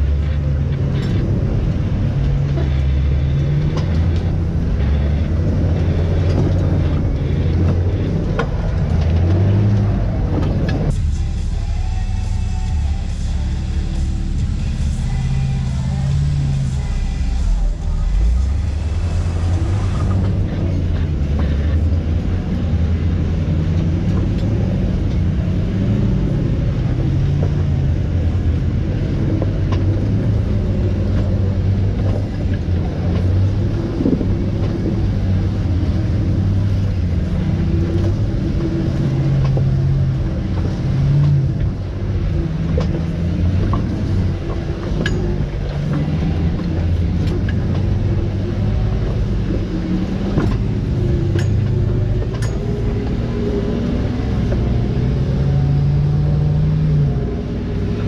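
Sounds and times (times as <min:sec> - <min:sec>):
engine running at low revs: 0:00.0 - 0:58.0.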